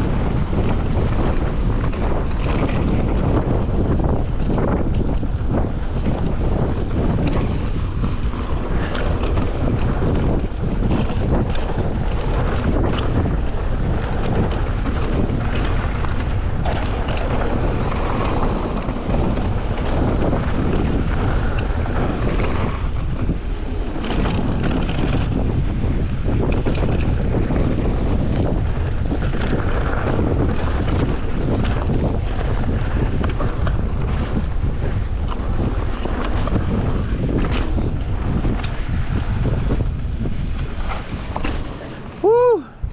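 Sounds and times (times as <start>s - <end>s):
wind buffeting microphone: 0.0s - 42.9s
bike clicks and knocks: 0.3s - 42.1s.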